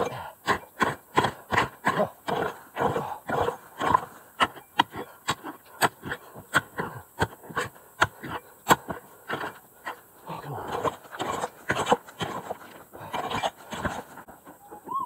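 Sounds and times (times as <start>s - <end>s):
hand pick striking gravel: 0.0s - 10.0s, 10.6s - 14.2s
dirt and stones scraping: 0.0s - 15.0s.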